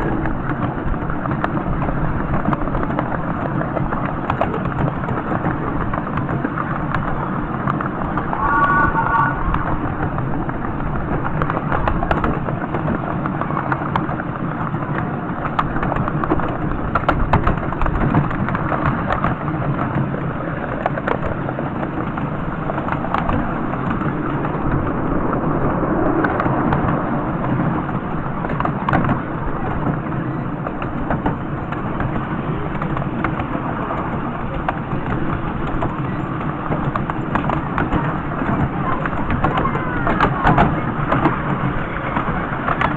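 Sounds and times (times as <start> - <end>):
miniature train rumbling: 0.0 - 42.9
wheels clicking on track: 0.0 - 42.9.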